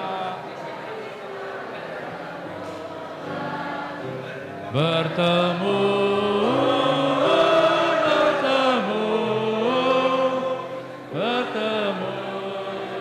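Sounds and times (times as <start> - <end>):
group singing a hymn: 0.0 - 13.0.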